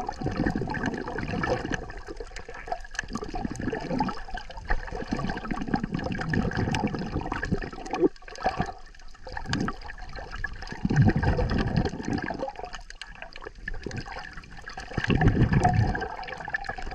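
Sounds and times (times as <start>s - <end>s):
muffled underwater rushing water: 0.0s - 16.9s.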